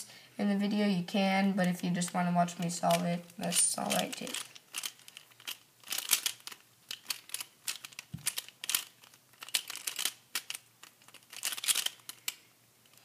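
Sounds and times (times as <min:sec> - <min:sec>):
plastic puzzle clicking: 0:01.7 - 0:13.0.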